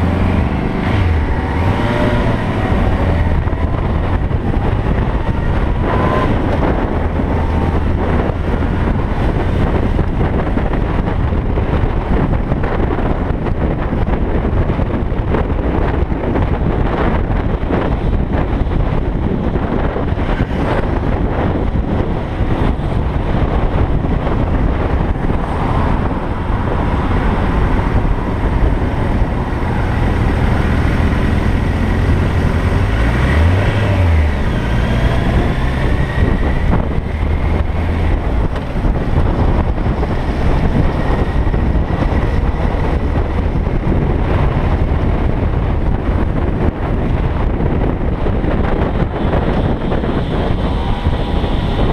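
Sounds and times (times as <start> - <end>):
motorcycle engine running: 0.0 - 51.9
wind buffeting microphone: 0.0 - 51.9.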